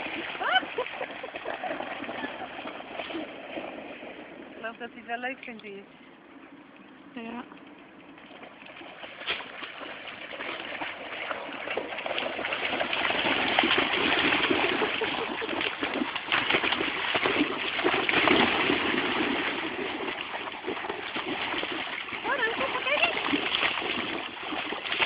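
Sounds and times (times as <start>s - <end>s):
dog splashing through water: 0.0s - 4.6s, 8.2s - 25.0s.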